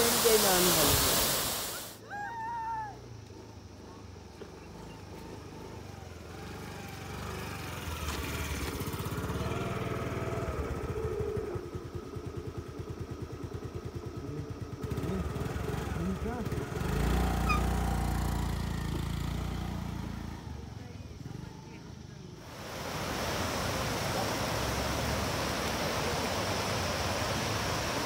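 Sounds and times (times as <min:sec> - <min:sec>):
motorcycle engines running: 0:03.0 - 0:28.0.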